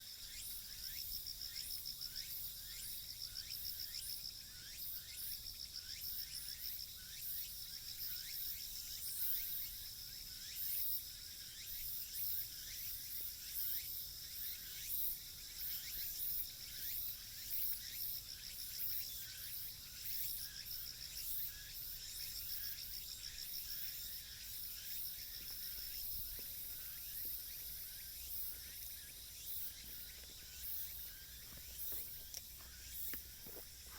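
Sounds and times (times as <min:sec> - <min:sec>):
insects trilling and chirping: 0:00.0 - 0:33.9.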